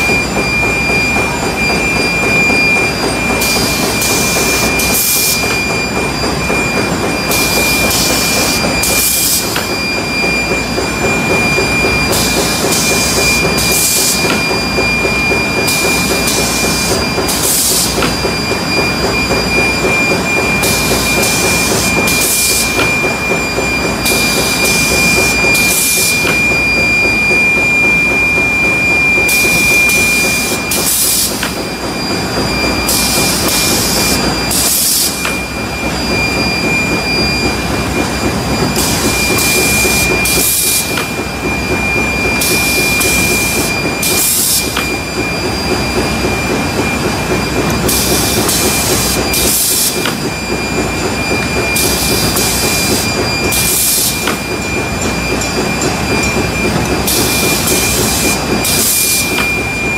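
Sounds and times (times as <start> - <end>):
high machine whine: 0.0 - 59.9
production machine running: 0.0 - 59.9.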